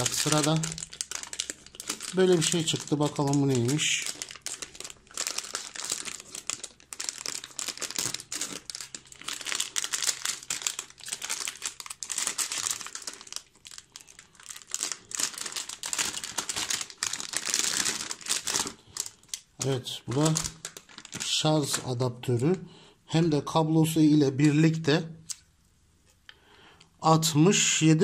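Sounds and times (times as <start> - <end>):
plastic bags crinkling: 0.0 - 22.5.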